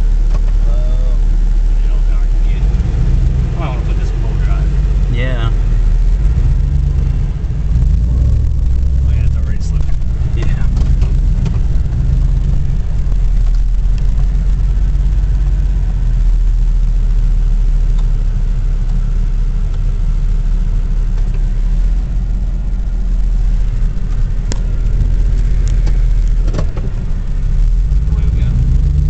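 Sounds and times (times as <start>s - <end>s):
truck engine rumble: 0.0s - 29.0s.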